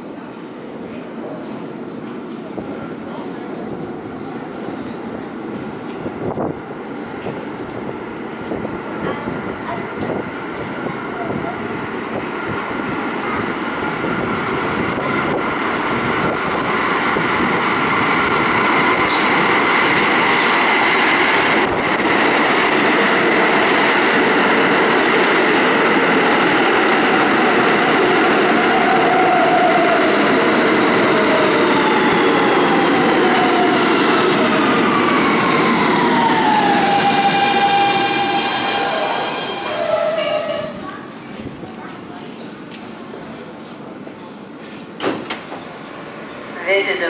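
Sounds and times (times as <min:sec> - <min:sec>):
subway train wheels rumbling: 0:00.0 - 0:47.0.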